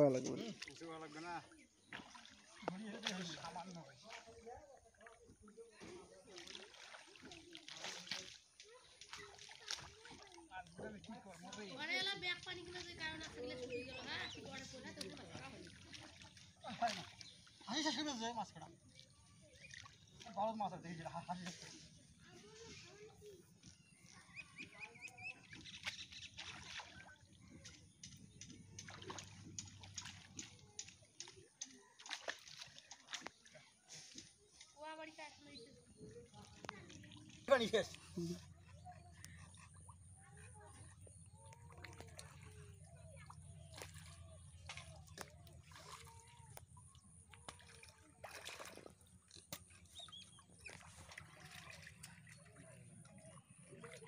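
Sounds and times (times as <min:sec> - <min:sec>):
wading through muddy water: 0:00.0 - 0:54.0.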